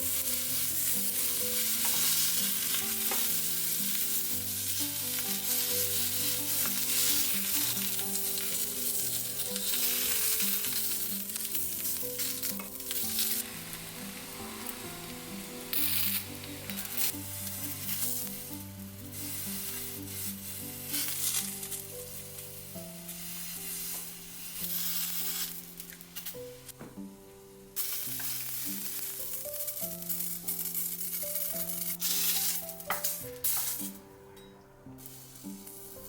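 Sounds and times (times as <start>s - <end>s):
food sizzling in a pan: 0.0s - 34.0s, 35.0s - 36.0s
soft background music: 0.0s - 36.0s.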